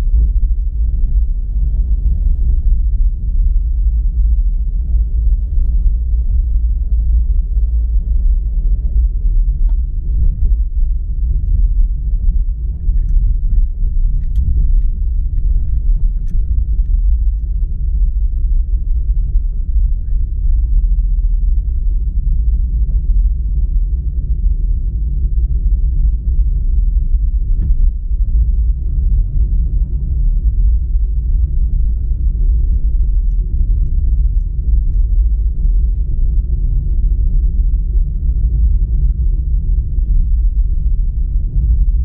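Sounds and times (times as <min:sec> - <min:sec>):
car road rumble: 0:00.0 - 0:42.0.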